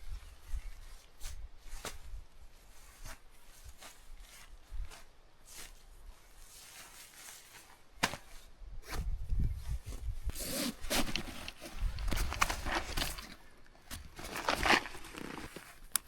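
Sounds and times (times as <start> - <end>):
rustling and scraping handling noise: 0.1 - 16.0.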